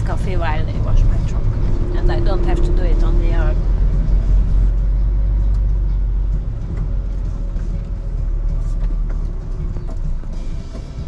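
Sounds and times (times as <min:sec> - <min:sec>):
lorry diesel engine rumbling: 0:00.0 - 0:11.0.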